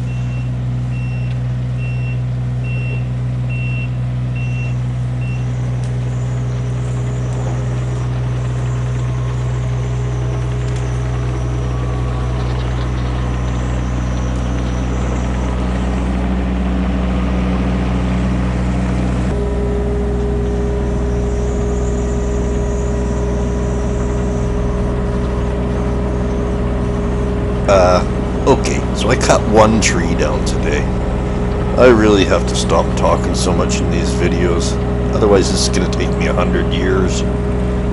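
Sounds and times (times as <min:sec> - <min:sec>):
diesel engine running: 0:00.0 - 0:37.9
higher steady whine: 0:00.0 - 0:37.9.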